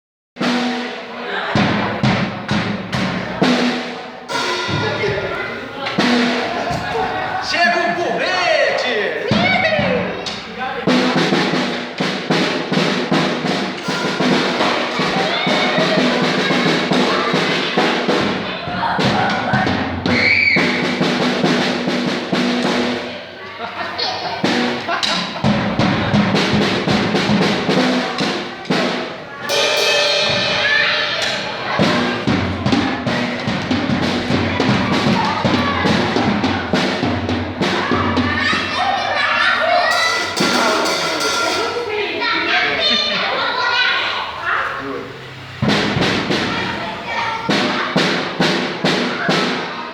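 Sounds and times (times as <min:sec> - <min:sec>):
drum kit playing: 0:00.4 - 0:49.9.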